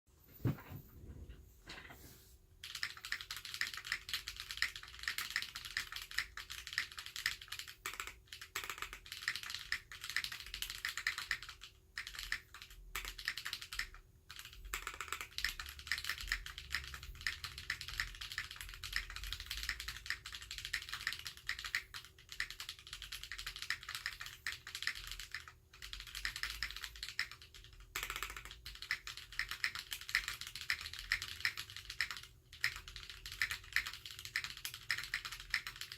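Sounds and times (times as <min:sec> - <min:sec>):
fast mechanical keyboard typing: 0:02.6 - 0:35.9.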